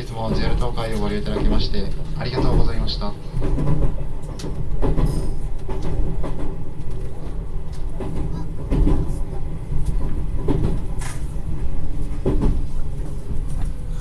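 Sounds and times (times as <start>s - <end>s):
train rumble: 0.0s - 14.0s
wheels clacking over rail joints: 0.0s - 14.0s.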